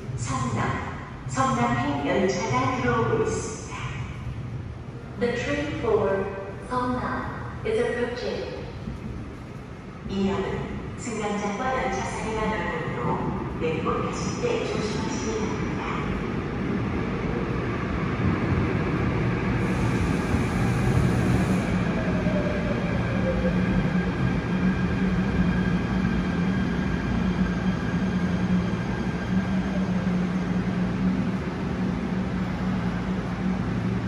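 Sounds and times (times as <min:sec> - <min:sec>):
train rumbling on rails: 0:00.0 - 0:34.0.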